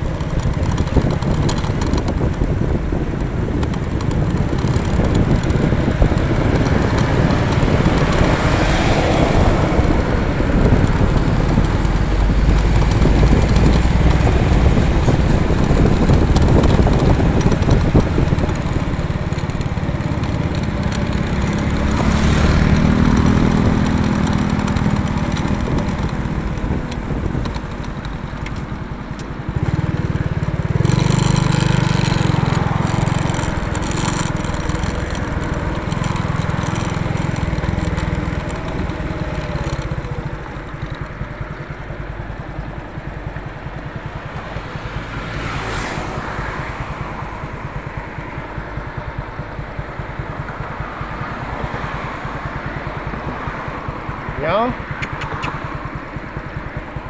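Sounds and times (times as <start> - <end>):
motorcycle engine droning: 0.0 - 57.0
road and wind noise: 0.0 - 57.0.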